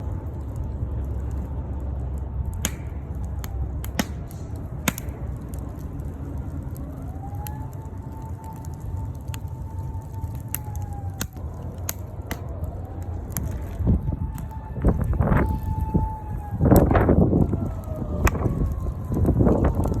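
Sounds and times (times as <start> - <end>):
sharp pops of fire: 0.0 - 20.0
wood fire crackling: 0.0 - 20.0.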